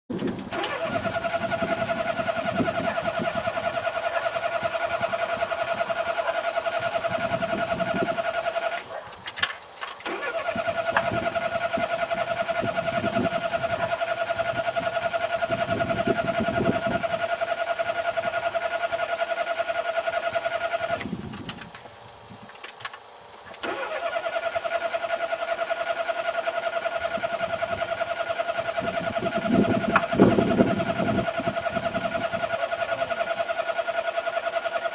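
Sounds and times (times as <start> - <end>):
starter motor cranking engine: 0.1 - 34.9.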